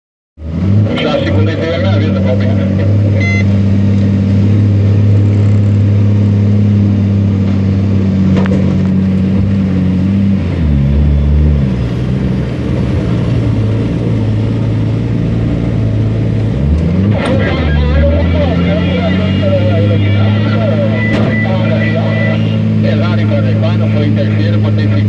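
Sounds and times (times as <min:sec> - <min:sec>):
truck diesel engine under load: 0:00.4 - 0:25.0.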